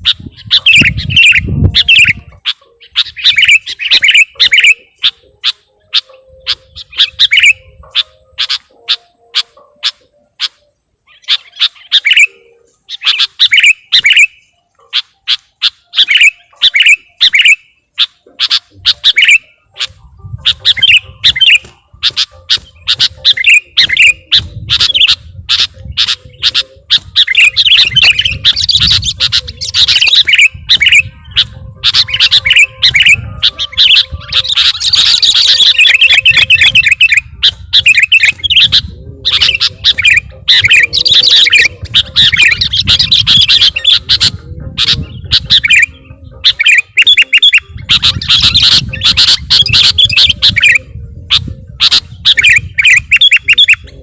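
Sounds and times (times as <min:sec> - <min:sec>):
bulbul singing chirping notes: 0:00.0 - 0:54.0.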